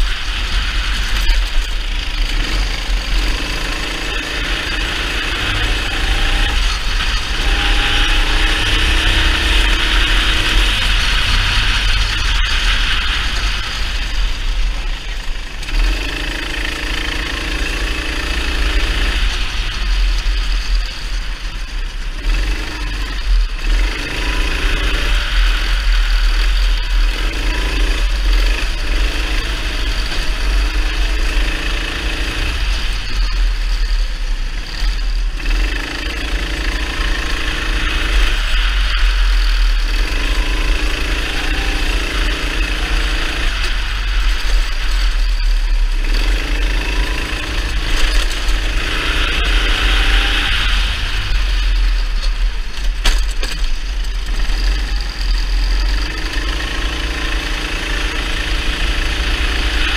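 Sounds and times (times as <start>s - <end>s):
kart engine revving: 0.0s - 59.9s
low rumble of moving kart: 0.0s - 59.9s.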